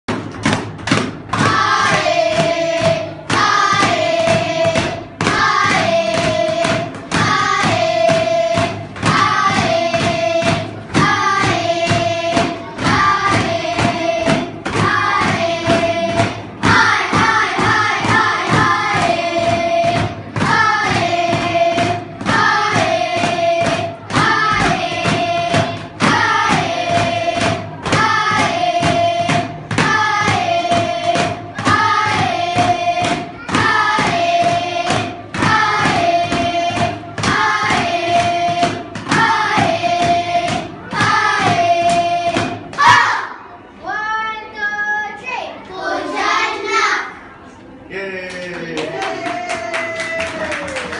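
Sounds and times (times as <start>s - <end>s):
steady beat: 0.1s - 43.4s
children singing together: 0.1s - 47.4s.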